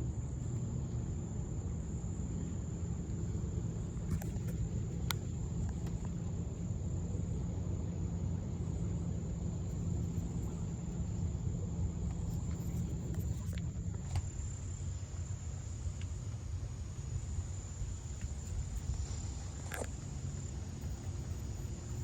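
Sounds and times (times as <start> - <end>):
insects droning: 0.0 - 22.0
low steady rumble: 0.0 - 22.0.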